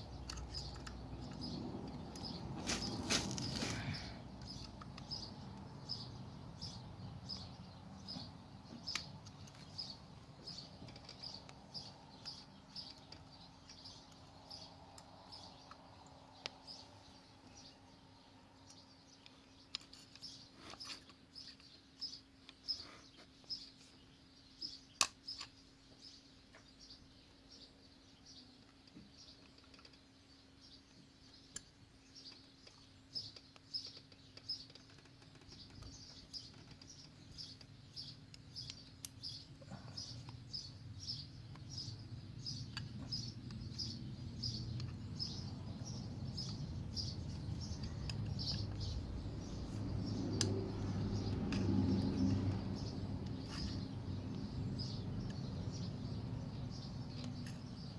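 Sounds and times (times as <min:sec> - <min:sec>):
bird chirping: 0:00.0 - 0:57.9.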